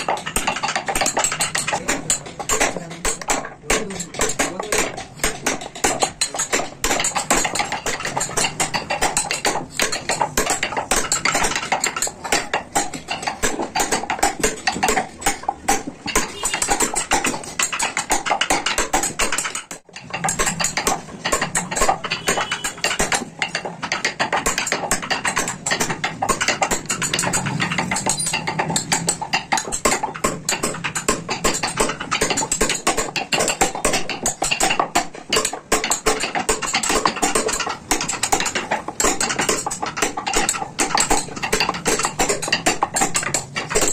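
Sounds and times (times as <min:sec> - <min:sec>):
hammer tapping chisel into wood: 0:00.0 - 0:43.9.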